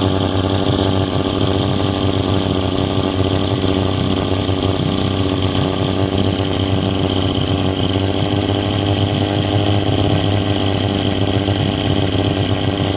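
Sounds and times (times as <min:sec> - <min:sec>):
small boat motor running: 0:00.0 - 0:12.9.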